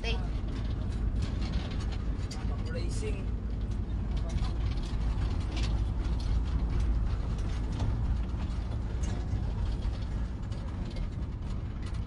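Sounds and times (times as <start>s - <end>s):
light rattling and clicks: 0.0s - 12.0s
vehicle rumble from inside: 0.0s - 12.0s.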